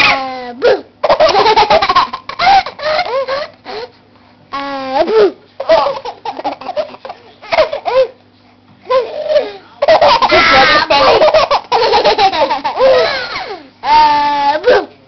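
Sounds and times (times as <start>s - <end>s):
baby laughing: 1.0s - 3.9s, 5.0s - 8.2s, 8.8s - 14.9s.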